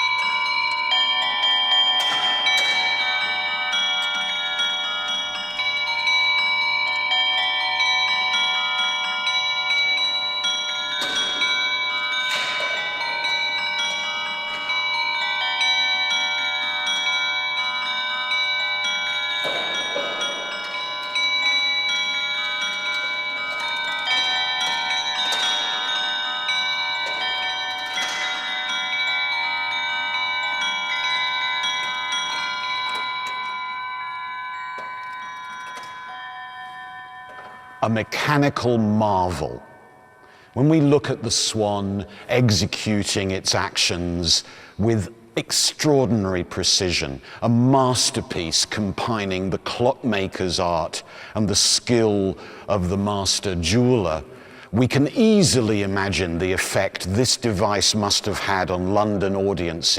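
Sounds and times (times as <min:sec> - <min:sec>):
bell-like chiming music: 0:00.0 - 0:59.9.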